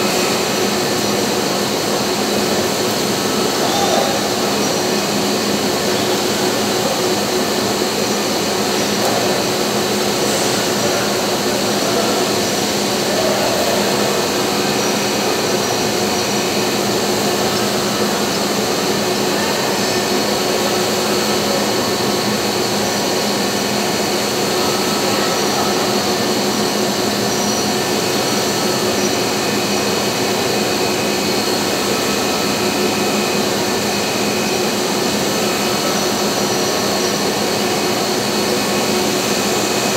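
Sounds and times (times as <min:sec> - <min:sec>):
workshop machinery drone: 0:00.0 - 0:39.9.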